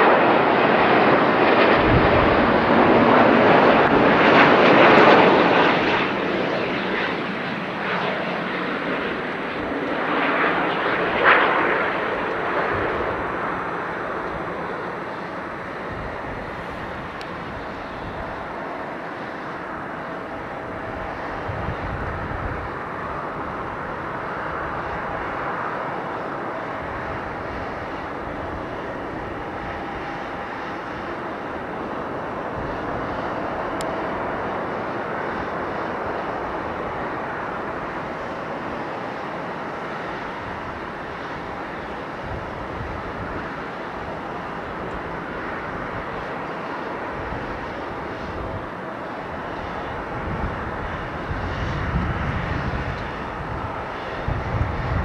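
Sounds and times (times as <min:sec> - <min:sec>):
distant jet engine roar: 0:00.0 - 0:55.0
faint engine whine: 0:00.0 - 0:55.0.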